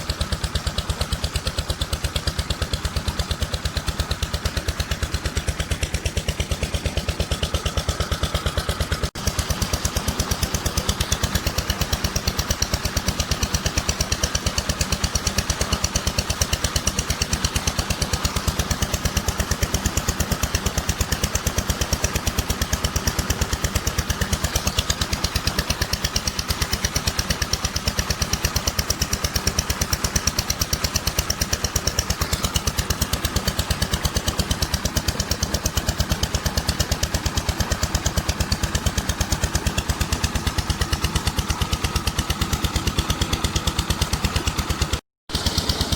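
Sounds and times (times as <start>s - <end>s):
diesel engine running pump: 0.0s - 45.9s.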